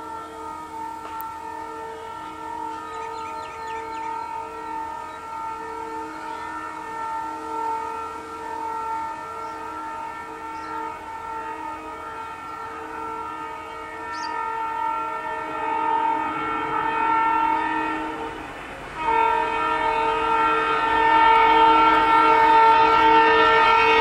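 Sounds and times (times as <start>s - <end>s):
locomotive air horn blast: 0.0s - 24.0s.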